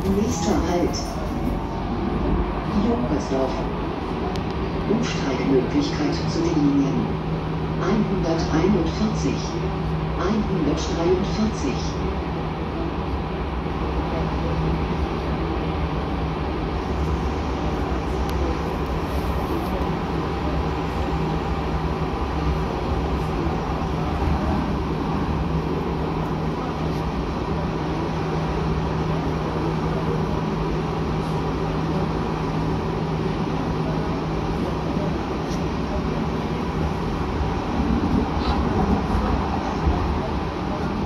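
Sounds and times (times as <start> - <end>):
tram rumbling on rails: 0.0 - 41.0.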